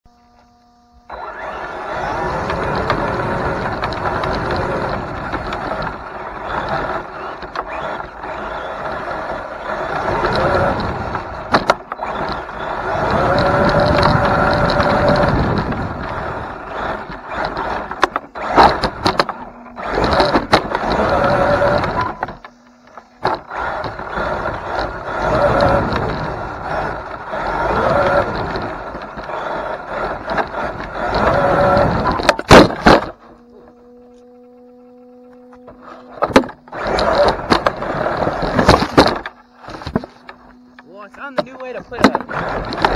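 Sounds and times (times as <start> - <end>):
toy truck motor whining: 0.1 - 42.9
toy truck tumbling knocks: 1.3 - 33.5, 35.5 - 42.9.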